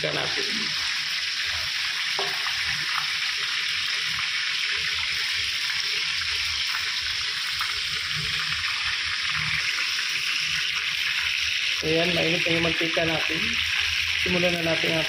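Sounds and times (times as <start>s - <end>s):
oil hissing in a frying pan: 0.0s - 15.0s.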